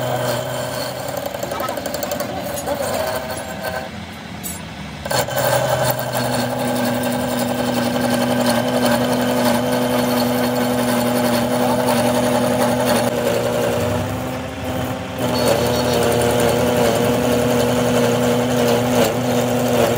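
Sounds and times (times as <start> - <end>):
metal lathe humming and whining: 0.0 - 19.9.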